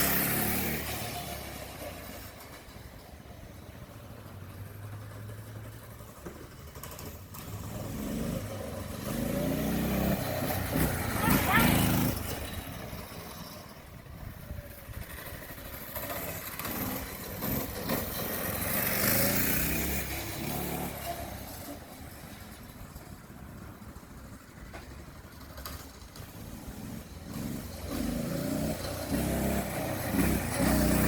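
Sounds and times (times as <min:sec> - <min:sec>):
mini bike engine passing by: 0:00.0 - 0:31.0.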